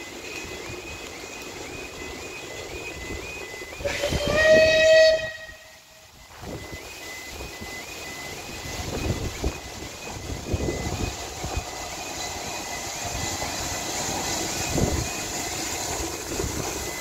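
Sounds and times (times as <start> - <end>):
level crossing alarm: 0.0 - 17.0
train rumble: 0.0 - 17.0
steam locomotive whistle: 2.5 - 17.0.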